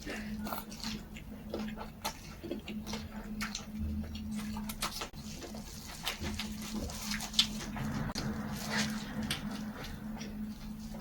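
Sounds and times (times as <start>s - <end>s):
person chewing food: 0.0s - 11.0s
steady low hum: 0.0s - 11.0s.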